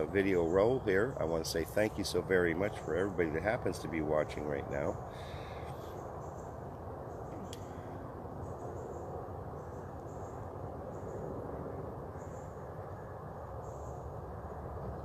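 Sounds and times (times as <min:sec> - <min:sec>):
crickets buzzing: 0:00.0 - 0:15.0
low background hum: 0:00.0 - 0:15.0.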